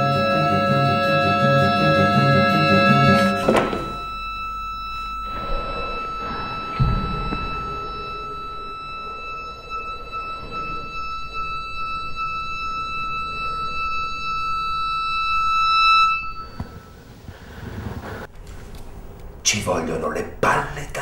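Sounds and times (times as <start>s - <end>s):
high-pitched alarm-like tone: 0.0s - 17.1s
soft low music: 0.0s - 18.2s.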